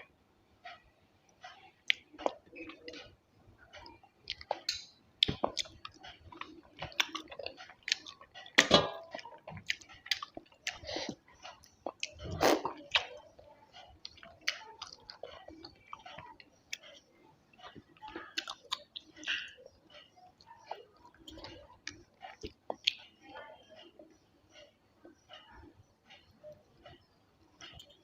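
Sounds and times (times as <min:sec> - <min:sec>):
person chewing food: 0:00.7 - 0:28.0.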